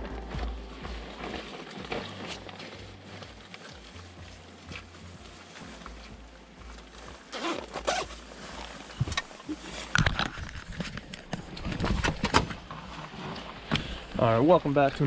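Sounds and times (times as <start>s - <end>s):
scraping and rustling handling noise: 0.0s - 15.0s.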